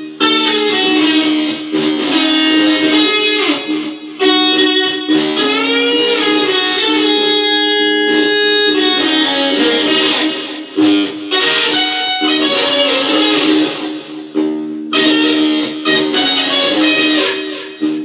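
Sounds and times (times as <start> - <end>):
electric guitar blues lead: 0.0 - 18.0.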